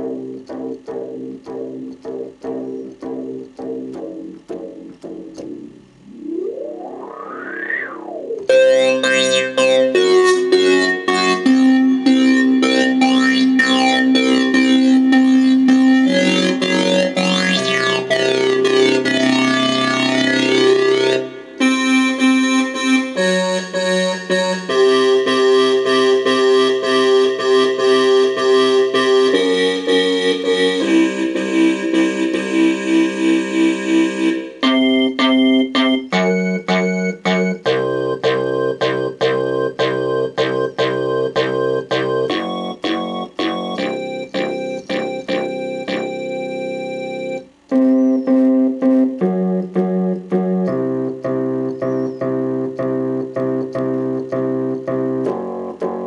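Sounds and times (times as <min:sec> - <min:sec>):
synth bass notes and chords: 0:00.0 - 0:56.0.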